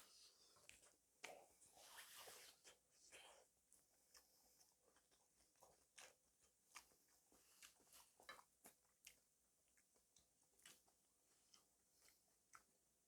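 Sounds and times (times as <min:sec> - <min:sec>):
chewing: 0:00.0 - 0:12.8.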